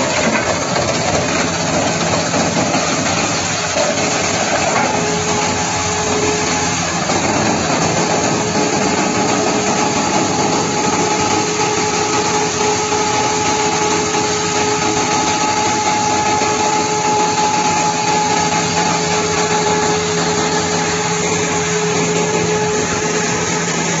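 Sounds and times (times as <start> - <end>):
steady mechanical whine: 0.0 - 24.0
wood chipper running: 0.0 - 24.0.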